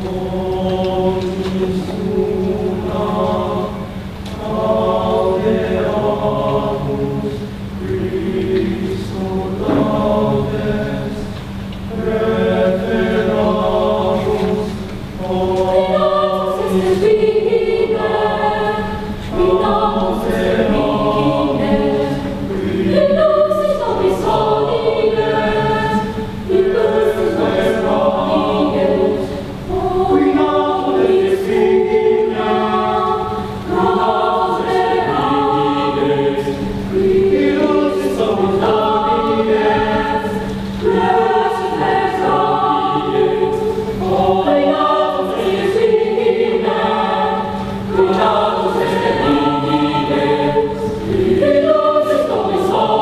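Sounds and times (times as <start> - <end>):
youth choir singing unaccompanied: 0.0 - 53.0.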